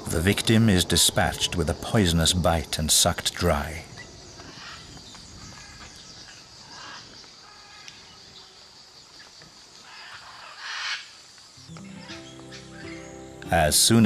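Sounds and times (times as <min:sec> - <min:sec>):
high insect drone: 0:00.2 - 0:14.0.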